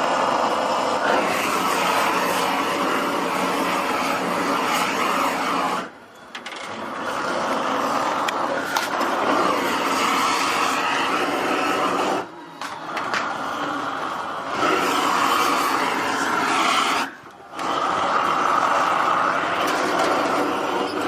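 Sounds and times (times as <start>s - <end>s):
blowtorch flame roaring: 0.0s - 21.0s.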